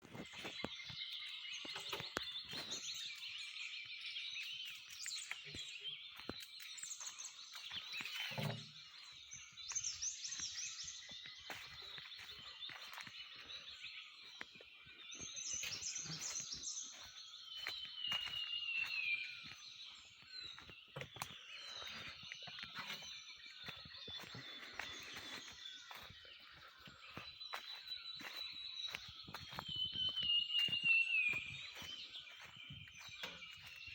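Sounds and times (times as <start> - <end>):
birds chirping and calling: 0.0 - 33.9.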